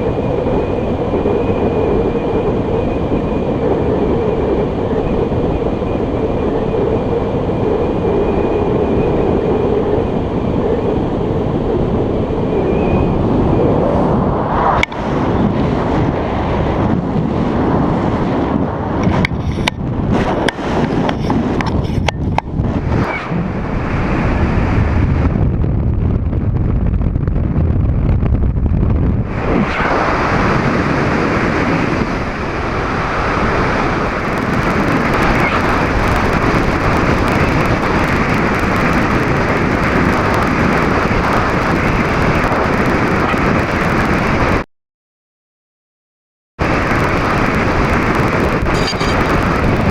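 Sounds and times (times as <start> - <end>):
wind rushing over microphone: 0.0 - 44.7, 46.6 - 49.9.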